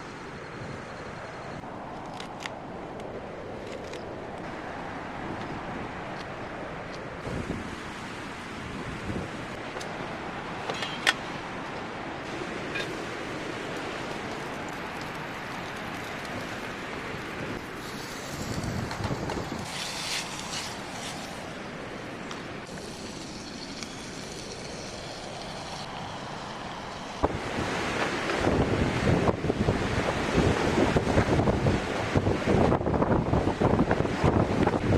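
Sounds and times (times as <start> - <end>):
strong wind blowing: 2.6 - 10.6, 11.3 - 34.9.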